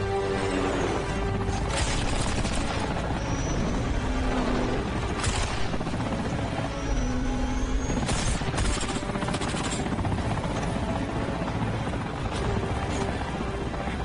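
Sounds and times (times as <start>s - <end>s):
dramatic score music: 0.0s - 14.0s
helicopter chase sound effects: 0.0s - 14.0s.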